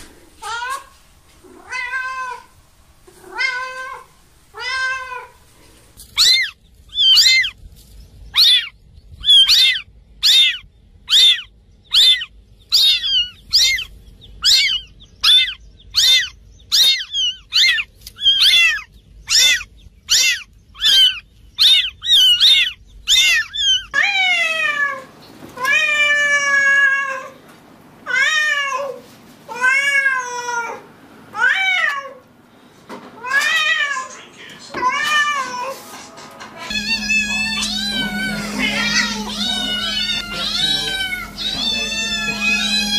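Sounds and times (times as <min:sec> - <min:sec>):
cat meowing: 0:00.4 - 0:02.5, 0:03.2 - 0:05.4, 0:06.1 - 0:07.6, 0:08.4 - 0:27.4, 0:28.1 - 0:32.2, 0:36.7 - 0:42.9.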